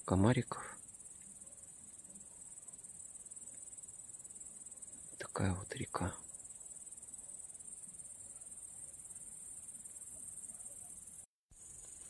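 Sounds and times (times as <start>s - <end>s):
grasshoppers chirring: 0.0s - 12.0s.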